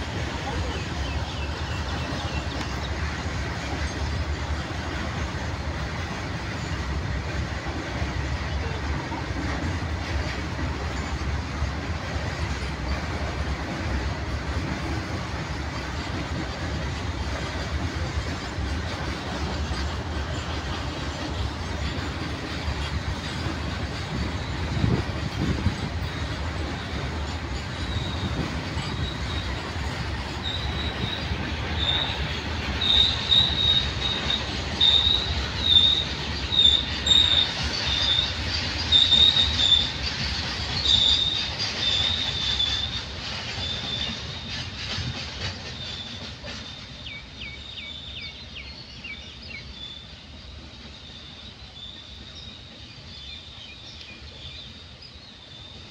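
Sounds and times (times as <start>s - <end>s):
train rumble and clatter on rails: 0.0s - 55.9s
train wheels squealing: 0.0s - 55.9s.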